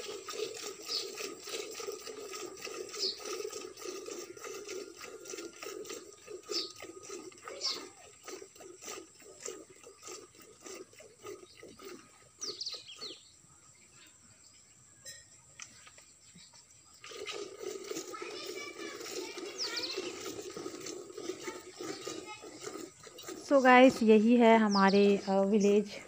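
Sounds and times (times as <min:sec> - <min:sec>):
milk squirting into pot: 0:00.0 - 0:13.1, 0:17.0 - 0:25.3.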